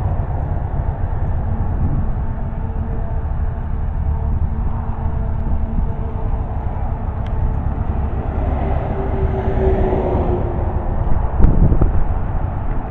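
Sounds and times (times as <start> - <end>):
low traffic rumble: 0.0 - 12.9
passing vehicle hum: 0.0 - 12.9.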